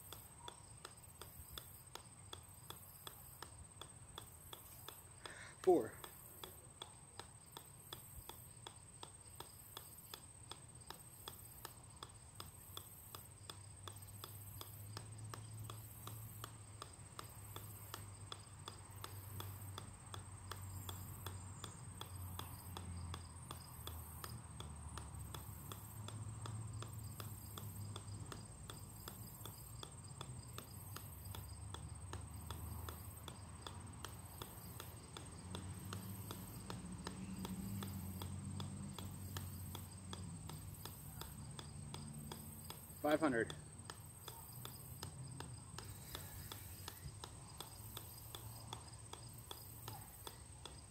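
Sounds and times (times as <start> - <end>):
golf ball bouncing on steel: 0.0 - 50.9.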